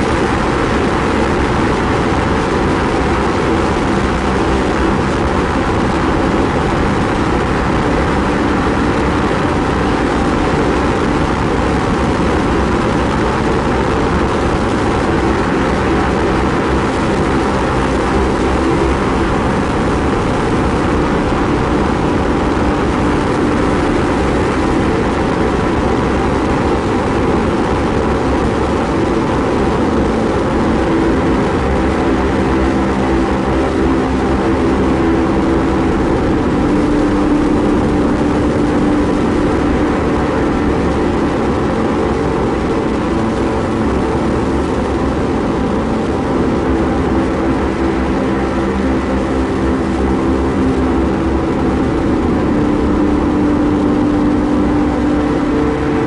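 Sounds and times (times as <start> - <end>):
ambient drone music: 0.0 - 56.0.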